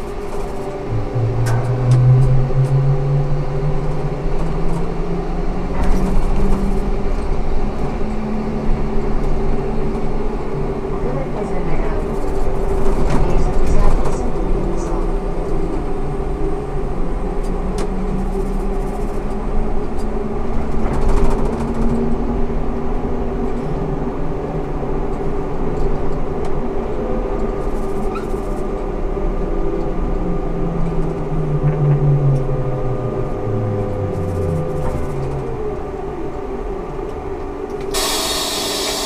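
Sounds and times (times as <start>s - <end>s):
road rumble: 0.0s - 39.0s.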